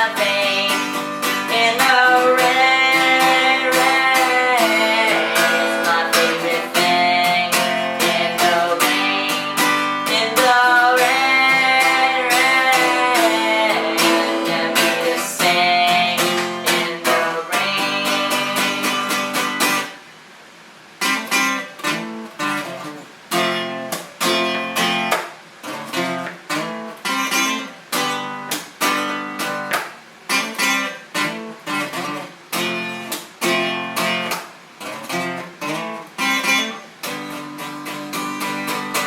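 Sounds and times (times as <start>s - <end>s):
guitar chords strummed: 0.0s - 20.0s, 21.0s - 39.0s.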